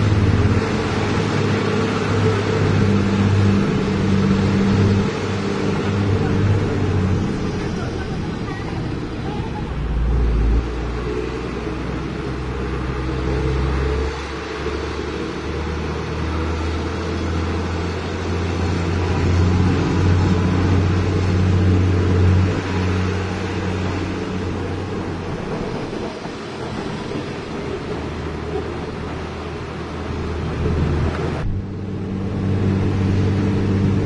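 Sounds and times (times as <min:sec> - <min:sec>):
truck diesel engine droning: 0:00.0 - 0:34.0.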